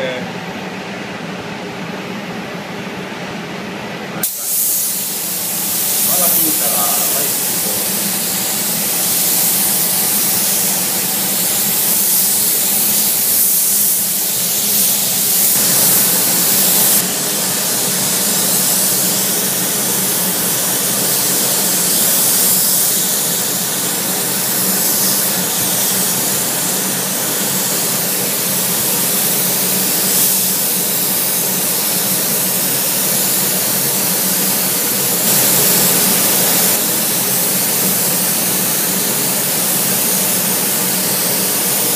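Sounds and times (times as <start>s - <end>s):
steady low hum: 0.0s - 30.3s, 35.1s - 38.4s
spray gun hissing: 4.2s - 41.9s.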